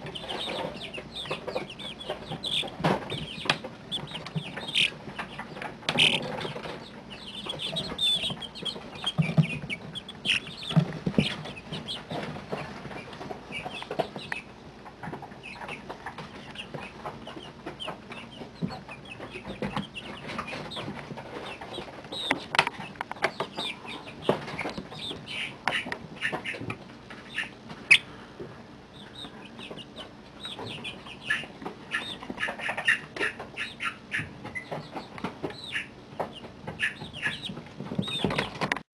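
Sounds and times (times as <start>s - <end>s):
chicks peeping and chirping: 0.0s - 38.8s.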